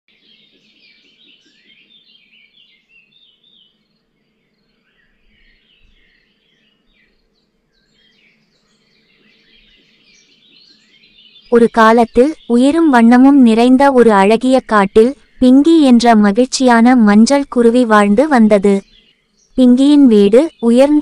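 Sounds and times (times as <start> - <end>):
small birds chirping: 0.1 - 21.0.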